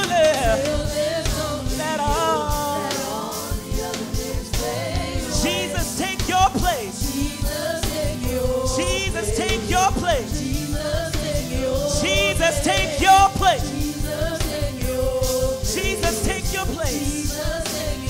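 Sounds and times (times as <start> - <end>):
band playing a steady beat: 0.0 - 18.0.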